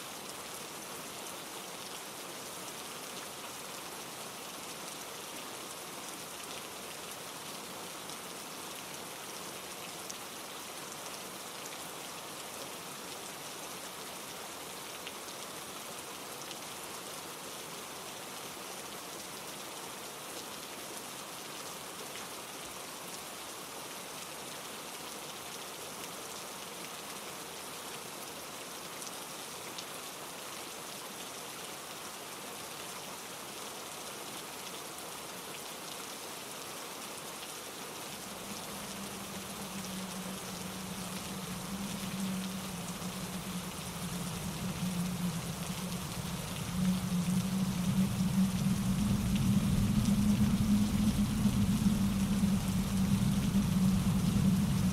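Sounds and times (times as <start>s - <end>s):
steady rain falling through trees: 0.0s - 54.9s
stream running over rocks: 0.0s - 54.9s.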